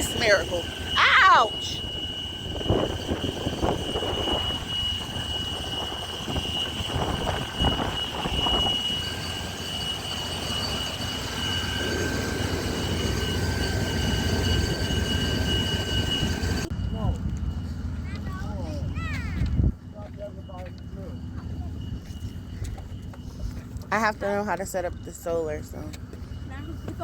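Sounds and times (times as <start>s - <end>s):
thin high whine: 0.0s - 27.0s.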